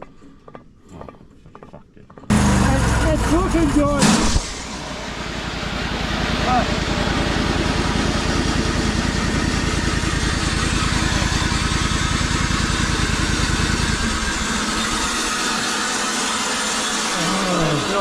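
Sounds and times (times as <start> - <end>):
engine pulsing: 2.2 - 18.0
mill mechanical noise: 2.3 - 18.0.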